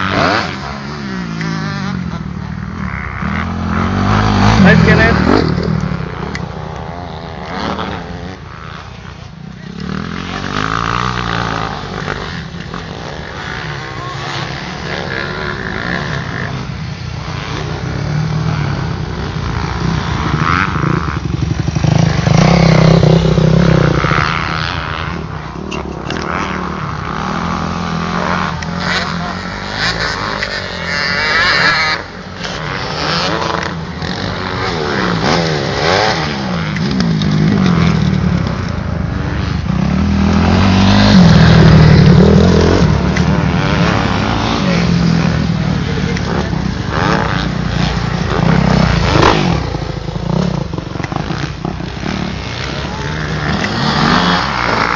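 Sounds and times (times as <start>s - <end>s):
motocross bike engines revving: 0.0s - 54.9s.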